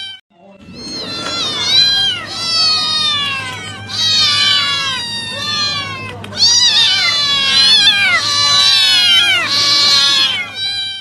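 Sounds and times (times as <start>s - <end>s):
cat meowing: 0.0s - 11.0s.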